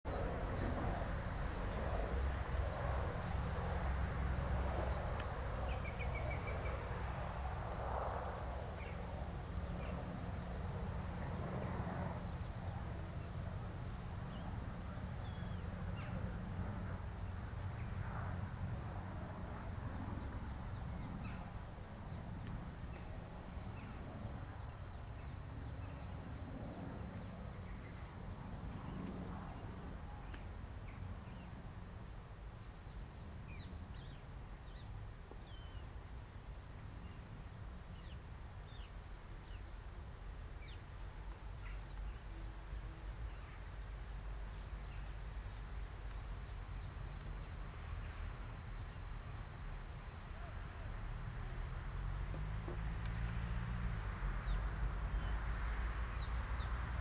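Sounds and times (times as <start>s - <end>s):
wasps humming: 0.0s - 40.0s, 40.6s - 57.0s.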